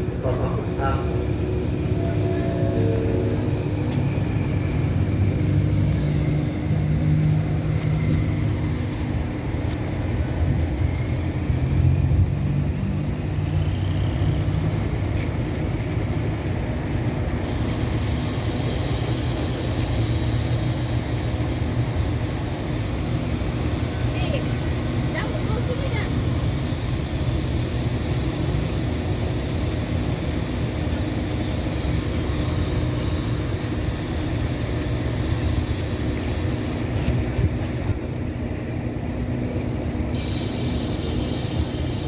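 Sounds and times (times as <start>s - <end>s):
train engine idling hum: 0.0s - 42.0s.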